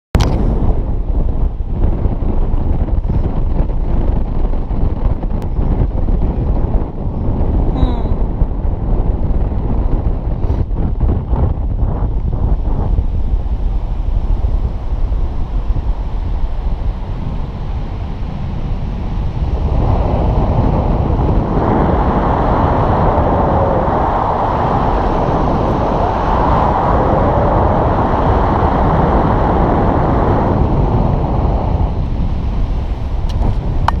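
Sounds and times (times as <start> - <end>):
wind roaring over microphone: 0.2 - 34.0.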